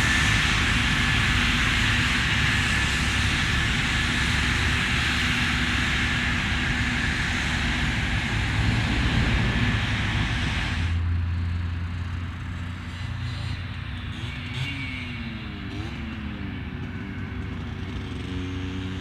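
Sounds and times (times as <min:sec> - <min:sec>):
harvester machine rushing with whine: 0:00.0 - 0:19.0
low engine drone: 0:00.0 - 0:19.0.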